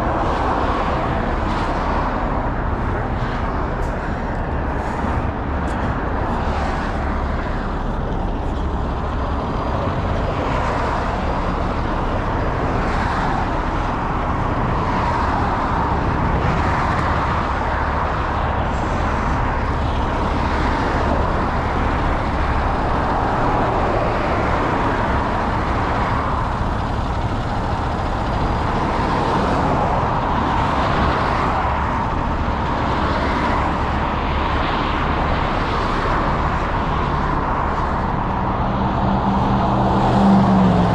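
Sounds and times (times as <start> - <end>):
low engine rumble: 0.0 - 40.9.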